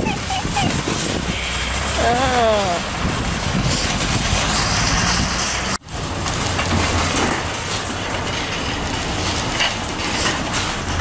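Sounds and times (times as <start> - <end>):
shopping cart rattling on asphalt: 0.0 - 11.0.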